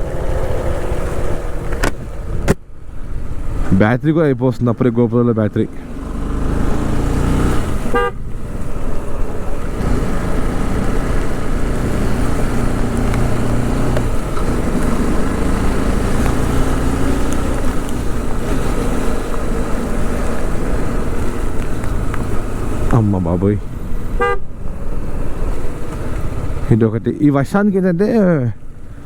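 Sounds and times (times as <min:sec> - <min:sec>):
motorcycle engine running: 0:00.0 - 0:02.3, 0:05.7 - 0:26.7
wind and road noise: 0:00.0 - 0:29.0.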